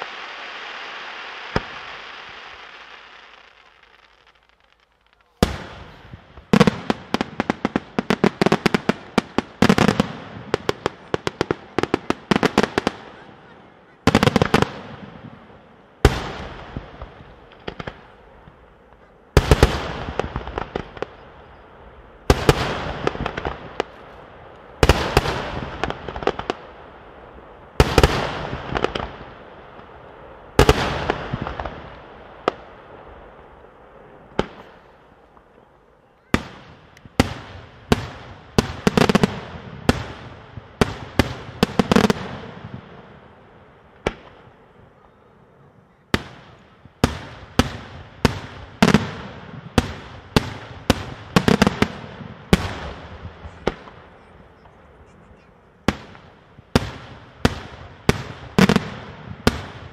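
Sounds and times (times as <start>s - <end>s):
fireworks bursting with loud bangs: 0.0s - 59.9s.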